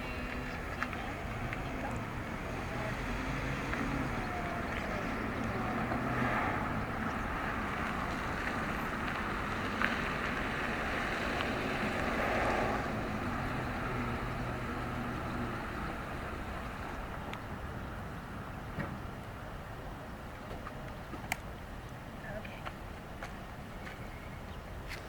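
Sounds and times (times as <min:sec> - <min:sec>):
traffic hum: 0:00.0 - 0:25.0.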